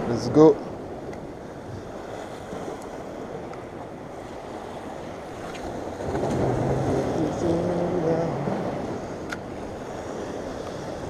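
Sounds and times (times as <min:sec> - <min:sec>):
wind buffeting microphone: 0:00.0 - 0:11.0
surf breaking against rocks: 0:01.7 - 0:11.0.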